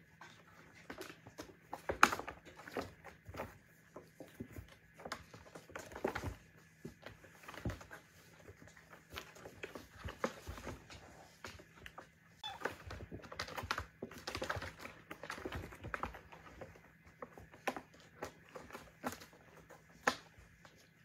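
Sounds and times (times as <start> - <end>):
kittens scuffling: 0.0 - 21.0.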